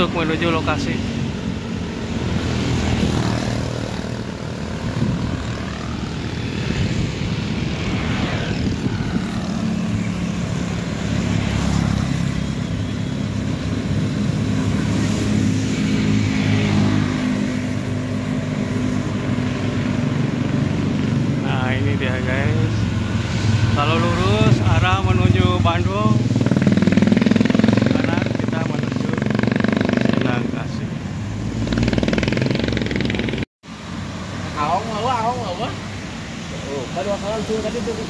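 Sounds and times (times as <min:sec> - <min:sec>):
passing traffic: 0:00.0 - 0:38.0
road and wind noise: 0:00.0 - 0:38.0.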